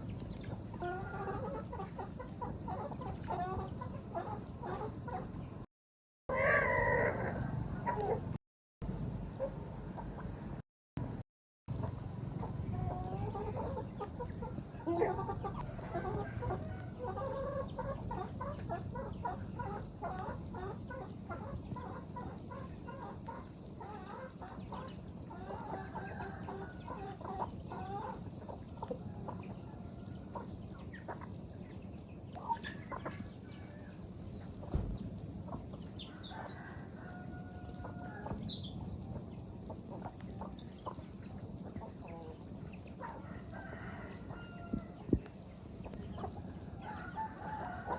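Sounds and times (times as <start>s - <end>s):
chickens clucking: 0.0s - 5.6s, 6.3s - 8.4s, 9.4s - 10.6s, 11.7s - 47.9s.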